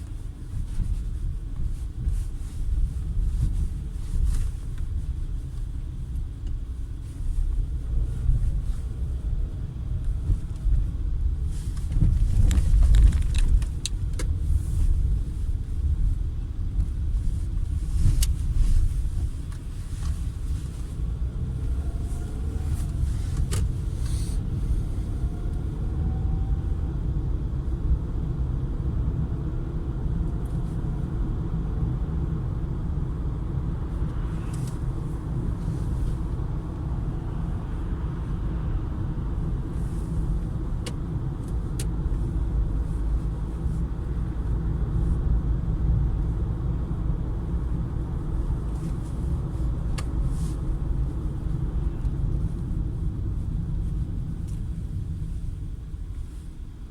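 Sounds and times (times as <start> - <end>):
car road rumble: 0.0 - 56.9.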